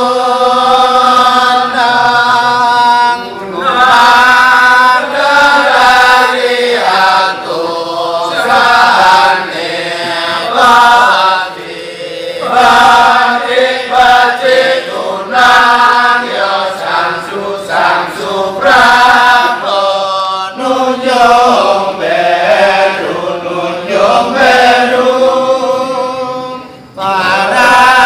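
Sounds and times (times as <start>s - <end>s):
voices chanting in held phrases: 0.0s - 28.0s.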